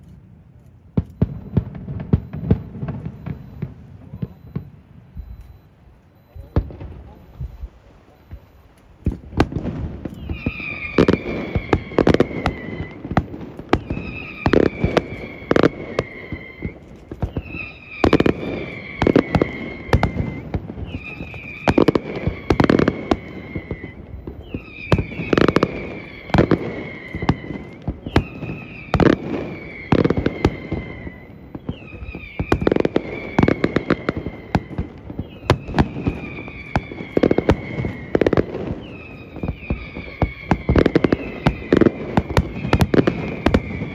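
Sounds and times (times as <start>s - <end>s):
firework bangs and crackling: 0.0s - 43.9s
firework whistle falling in pitch: 1.0s - 43.9s.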